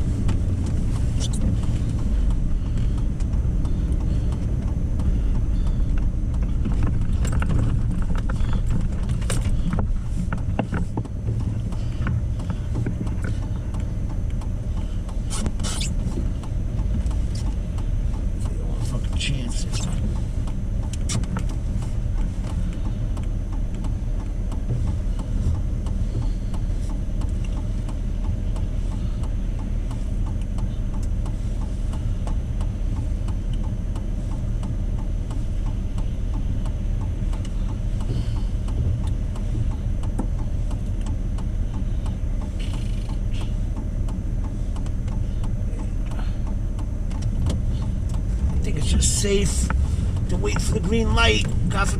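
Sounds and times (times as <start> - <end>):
truck engine rumbling: 0.0 - 51.9
turn signal ticking: 0.0 - 51.9.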